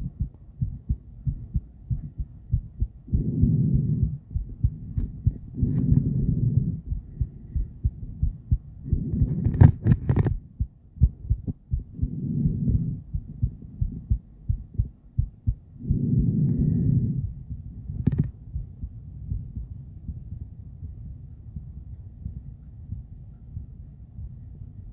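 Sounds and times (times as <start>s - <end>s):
heartbeat thumps on monitor: 0.0s - 24.9s.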